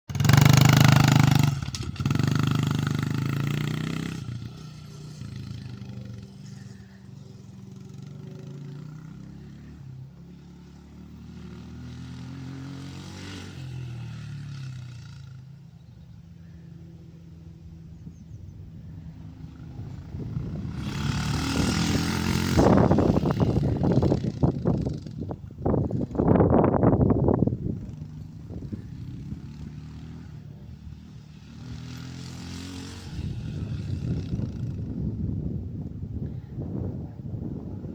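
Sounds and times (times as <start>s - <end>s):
dirt bike engine revving: 0.1s - 15.6s, 18.7s - 35.3s.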